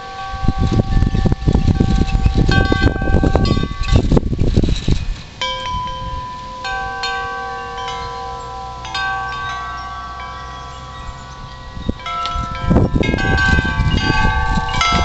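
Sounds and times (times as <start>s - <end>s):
metal wind chimes ringing: 0.0s - 15.0s
wind rushing: 0.0s - 15.0s.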